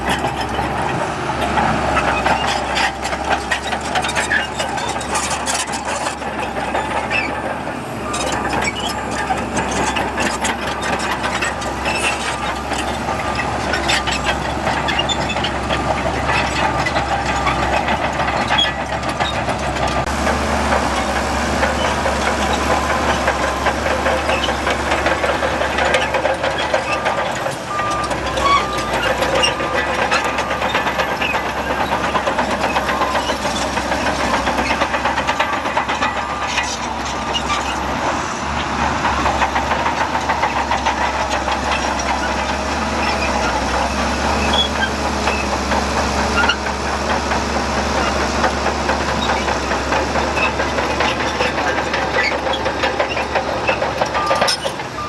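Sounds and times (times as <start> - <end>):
heavy machinery diesel engines: 0.0 - 55.0
machinery clatter: 0.0 - 55.0.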